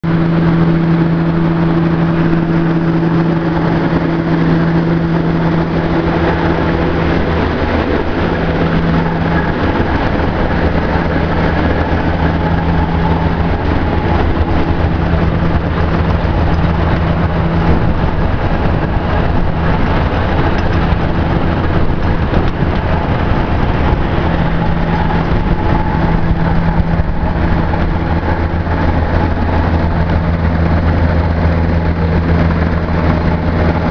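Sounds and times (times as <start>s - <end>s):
diesel engine drone: 0.0s - 33.9s
machine mechanical hum: 0.0s - 33.9s.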